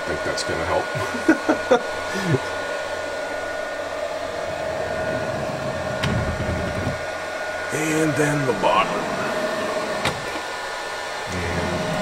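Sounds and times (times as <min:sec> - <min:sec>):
fan whirring hum: 0:00.0 - 0:12.0.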